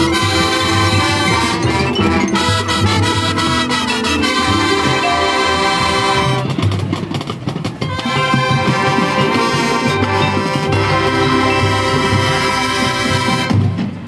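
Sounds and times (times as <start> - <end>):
brass chords: 0.0 - 6.8, 7.9 - 14.0
marching band percussion: 0.0 - 14.0.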